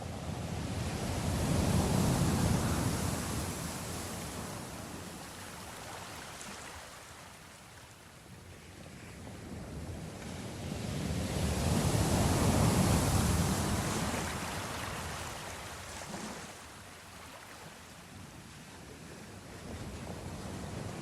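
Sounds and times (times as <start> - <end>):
sea waves washing: 0.0 - 7.7, 10.6 - 21.0.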